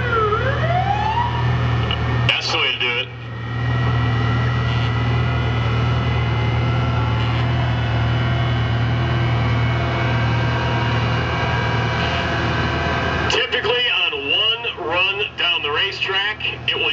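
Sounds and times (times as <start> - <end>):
jet engine idling whine: 0.0 - 16.9.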